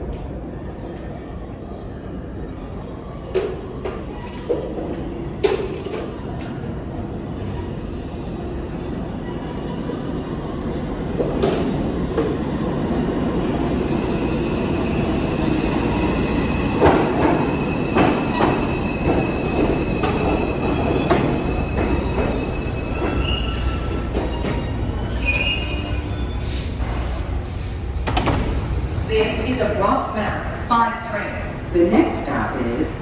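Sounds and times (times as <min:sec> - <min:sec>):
subway train rumble: 0:00.0 - 0:33.0.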